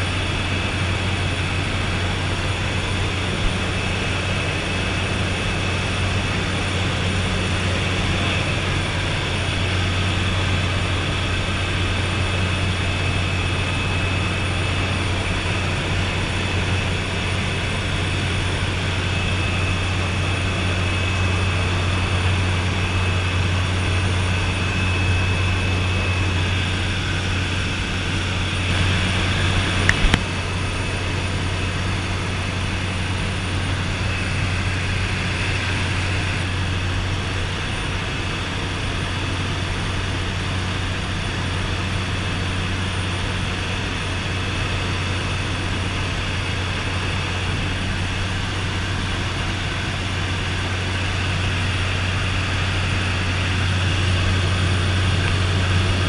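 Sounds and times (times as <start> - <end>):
turboprop engine drone: 0.0 - 56.0.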